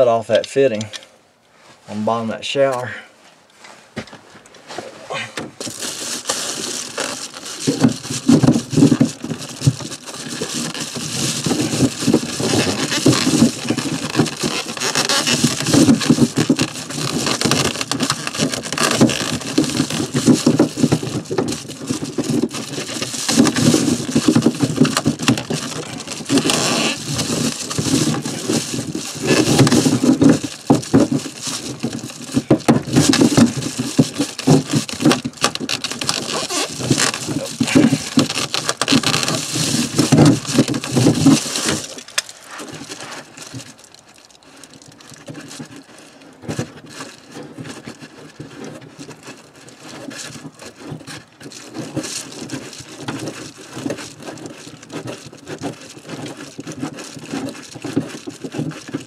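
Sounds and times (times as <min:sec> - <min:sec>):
rustling and crinkling of insulation: 0:00.0 - 0:59.0.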